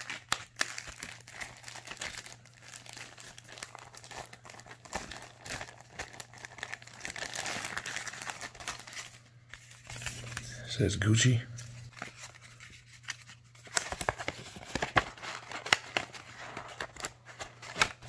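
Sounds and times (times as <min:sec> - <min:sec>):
plastic sleeve crinkling: 0:00.0 - 0:18.0.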